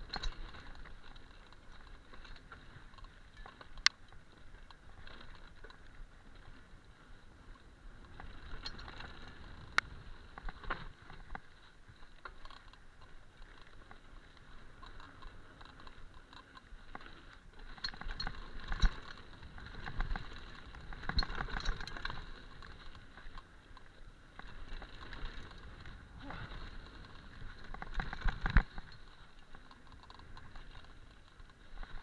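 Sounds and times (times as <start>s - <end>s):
bike chain and frame clattering: 0.0s - 6.6s, 7.4s - 32.0s
bike tyres on dirt: 0.0s - 32.0s.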